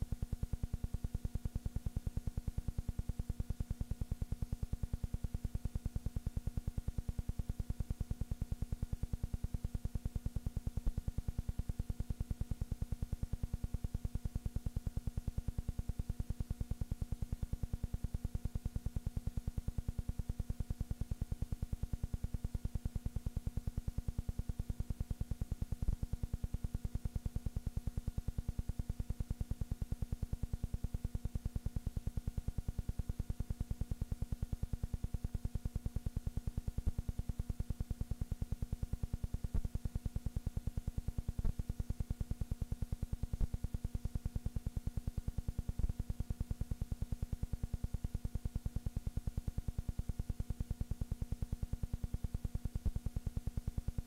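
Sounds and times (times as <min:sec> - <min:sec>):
faint hum of steady tones: 0:00.0 - 0:54.0.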